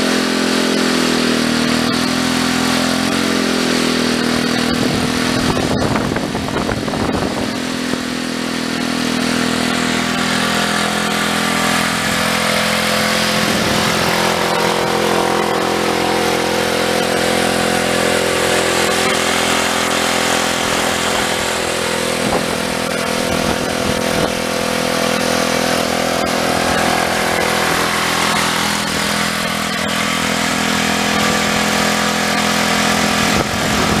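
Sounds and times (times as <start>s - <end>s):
generator engine running: 0.0s - 34.0s.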